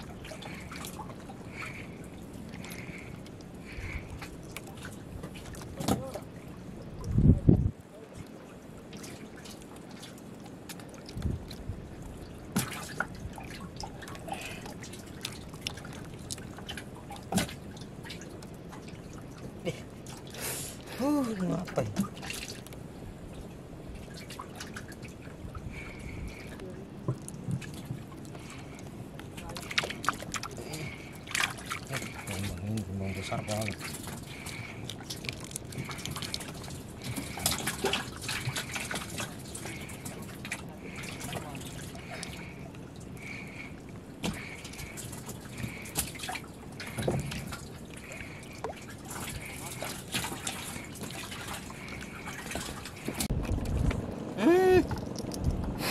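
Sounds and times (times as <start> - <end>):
water dripping and splashing: 0.0 - 55.8.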